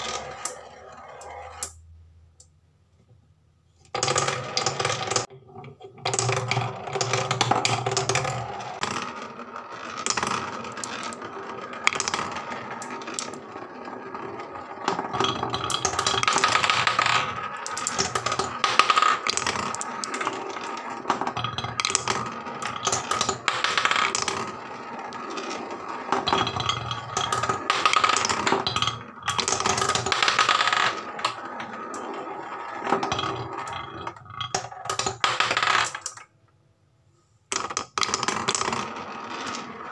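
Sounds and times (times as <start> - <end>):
marbles rolling on wooden track: 0.0 - 1.8, 3.9 - 36.4, 37.5 - 39.9
marbles clicking and knocking: 4.0 - 5.3, 6.0 - 36.3, 37.5 - 39.9.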